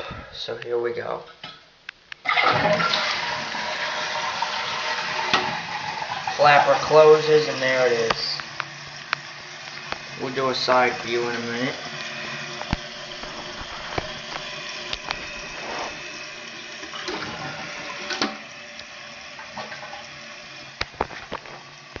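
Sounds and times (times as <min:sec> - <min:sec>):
toilet tank refilling hiss: 0:02.2 - 0:22.0.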